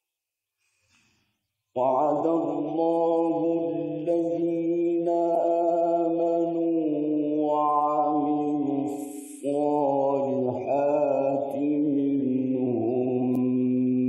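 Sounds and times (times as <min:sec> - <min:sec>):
man chanting melodically: 0:01.8 - 0:14.0.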